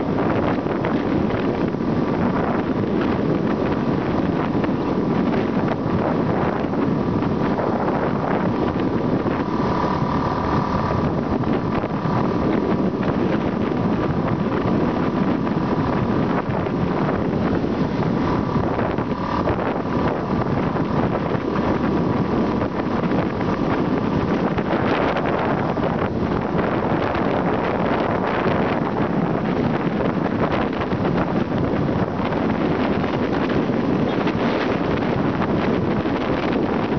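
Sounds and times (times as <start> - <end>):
faint whine: 0.0 - 36.9
motorbike engine drone: 0.0 - 36.9
road noise: 0.0 - 36.9
wind buffeting microphone: 0.0 - 36.9.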